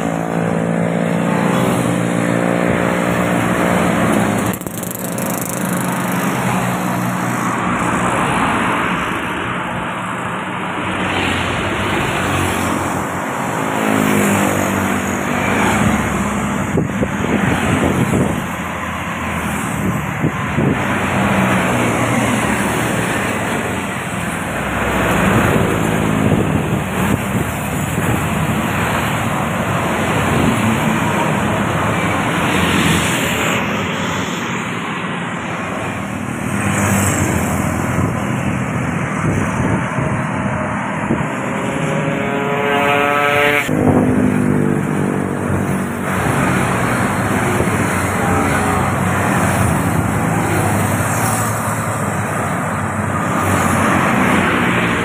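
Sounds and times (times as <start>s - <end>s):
highway traffic passing: 0.0s - 55.0s.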